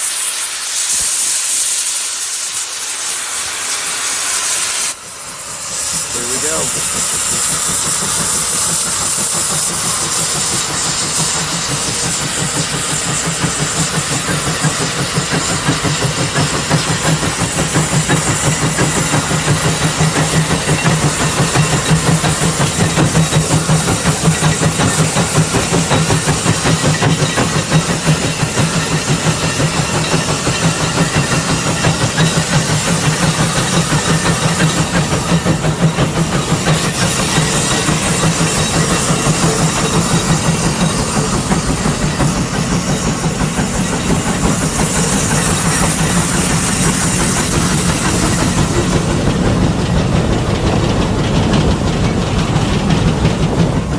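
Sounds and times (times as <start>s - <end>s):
steam engine exhaust chuffs: 0.0s - 53.9s
steam hissing: 0.0s - 53.9s.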